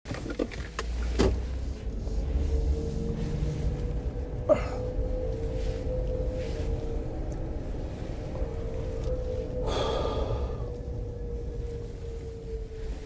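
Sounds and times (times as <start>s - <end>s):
low rumble: 0.8s - 13.0s.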